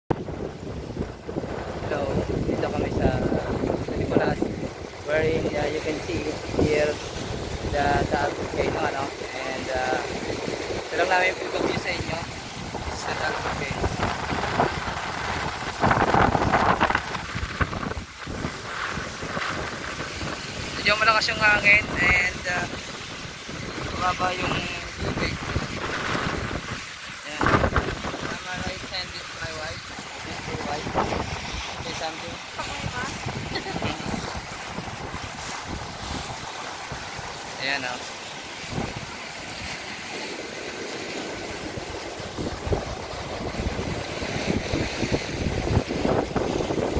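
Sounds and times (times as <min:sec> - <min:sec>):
choppy lake water: 0:00.1 - 0:46.9
wind buffeting microphone: 0:00.1 - 0:46.9.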